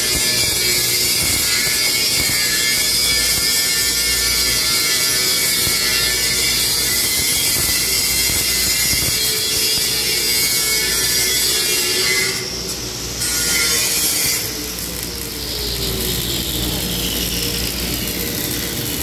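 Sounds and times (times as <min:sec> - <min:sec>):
angle grinder grinding steel: 0:00.0 - 0:19.0
welding arc crackling: 0:00.0 - 0:19.0.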